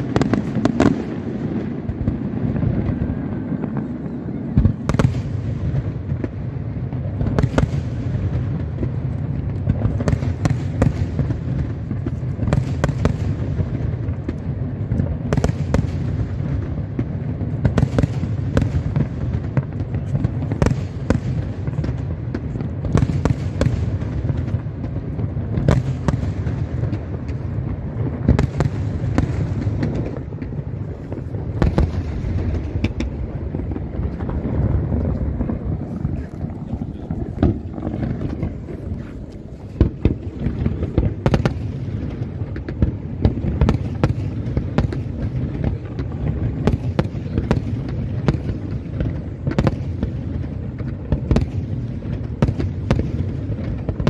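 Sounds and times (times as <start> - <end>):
sharp firework bangs: 0.0 - 54.0.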